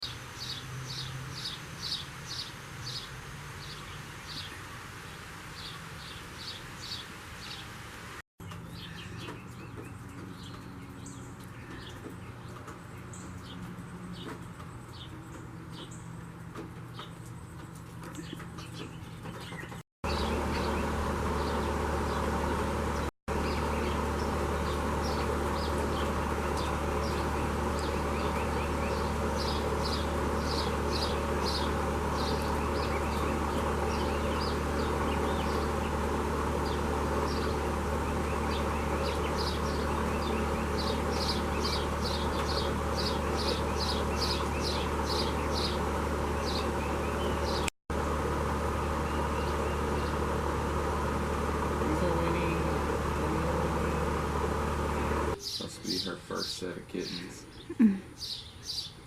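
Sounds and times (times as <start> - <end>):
small birds chirping: 0.0 - 7.8, 8.4 - 59.0
low mechanical hum: 0.1 - 55.7.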